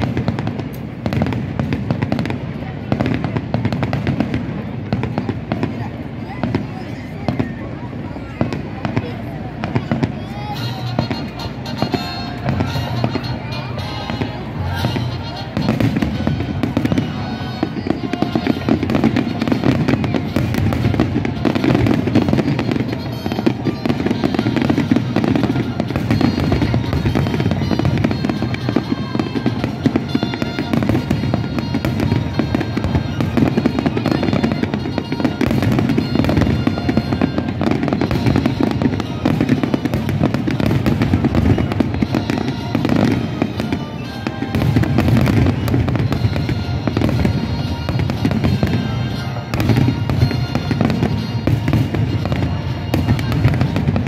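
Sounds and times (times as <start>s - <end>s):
fireworks bursting and crackling: 0.0s - 54.0s
music playing: 10.3s - 54.0s.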